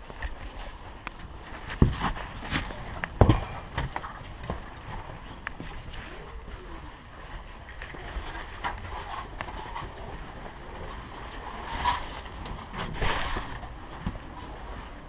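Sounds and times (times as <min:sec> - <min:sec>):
low rumbling microphone noise: 0:00.0 - 0:15.0.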